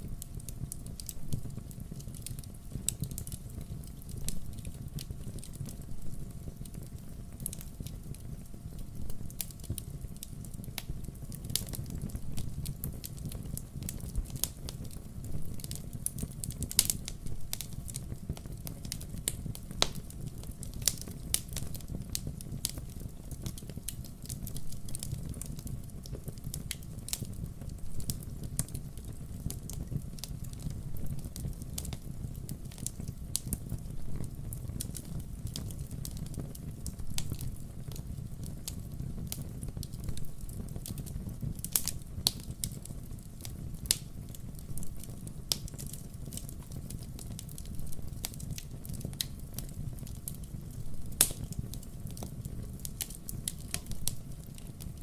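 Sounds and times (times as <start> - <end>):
burning firewood crackling: 0.0 - 55.0.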